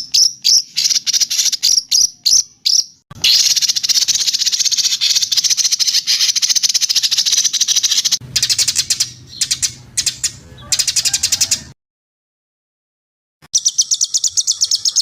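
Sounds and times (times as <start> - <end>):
songbird trilling: 0.0 - 11.7, 13.5 - 15.0.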